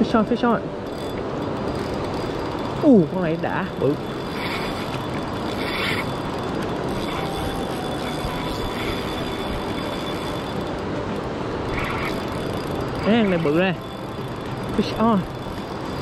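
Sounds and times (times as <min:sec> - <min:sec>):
river current rushing: 0:00.9 - 0:16.0.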